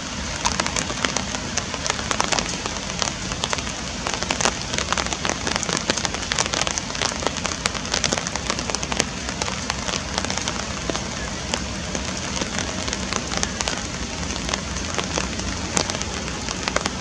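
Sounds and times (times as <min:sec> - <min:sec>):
rain on pond: 0:00.0 - 0:17.0.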